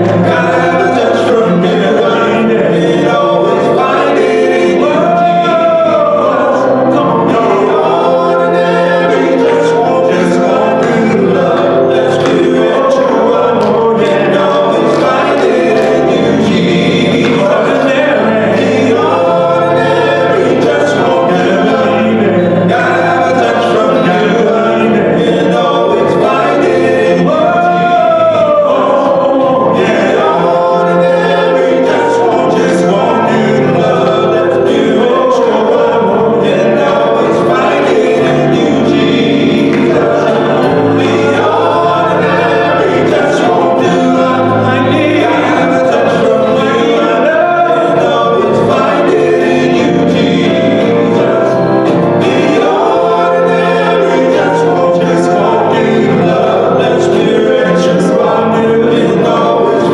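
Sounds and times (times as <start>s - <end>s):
male vocal quartet singing in harmony: 0.0s - 59.9s.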